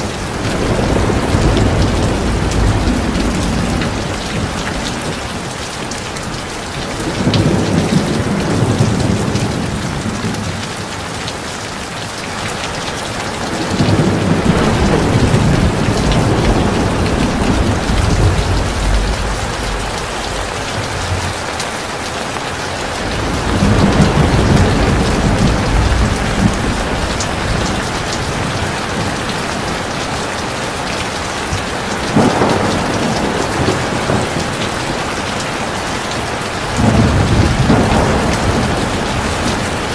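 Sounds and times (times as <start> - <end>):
low rolls of thunder: 0.0 - 5.6, 13.5 - 39.9
heavy rain: 0.0 - 39.9.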